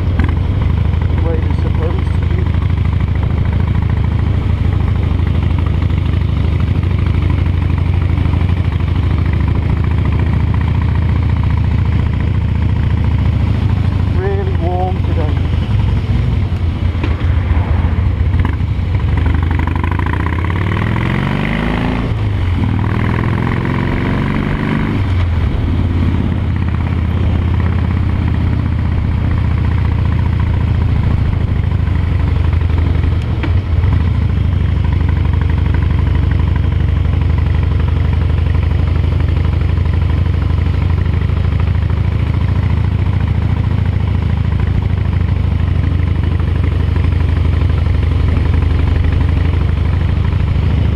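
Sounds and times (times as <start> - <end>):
motorcycle engine shifting gears: 0.0 - 50.9.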